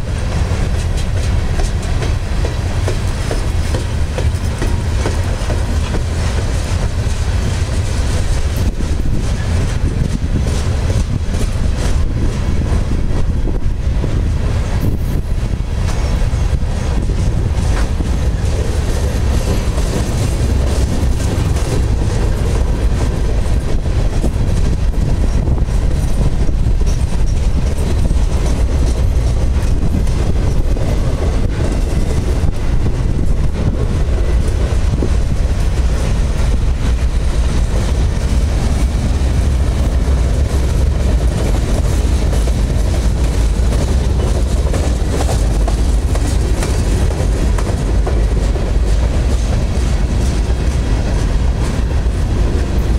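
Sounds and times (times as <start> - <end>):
freight cars rumbling on rails: 0.0 - 52.9
wheels clicking over rail joints: 0.0 - 52.9.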